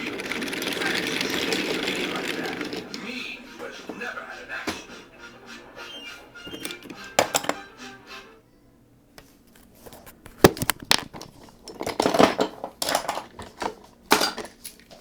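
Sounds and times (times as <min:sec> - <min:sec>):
wooden toy trains clattering: 0:00.0 - 0:08.0, 0:09.7 - 0:15.0.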